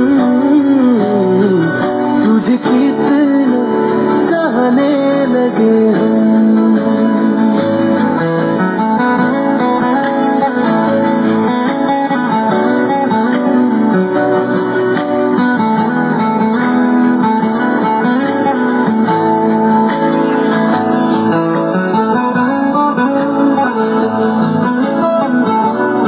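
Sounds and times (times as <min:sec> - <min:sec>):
instrumental guitar music: 0:00.0 - 0:26.0.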